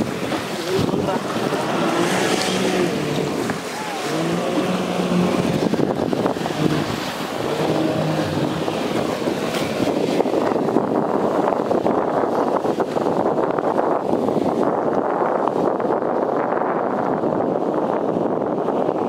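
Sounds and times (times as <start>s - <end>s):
rushing water and spray: 0.0s - 19.0s
speedboat engine hum: 0.0s - 19.0s
wind on microphone: 0.0s - 19.0s.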